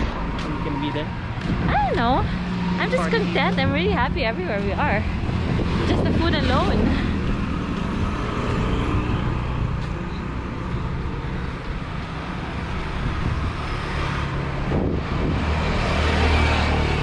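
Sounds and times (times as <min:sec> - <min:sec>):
road traffic: 0:00.0 - 0:17.0
vehicle engines running: 0:00.0 - 0:17.0.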